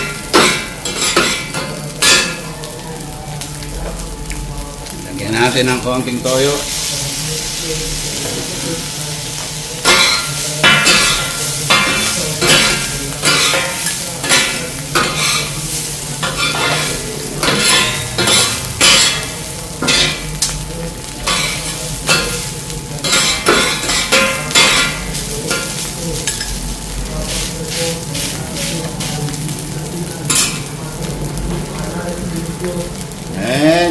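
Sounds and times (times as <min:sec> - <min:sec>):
rice sizzling on griddle: 0:00.0 - 0:33.9.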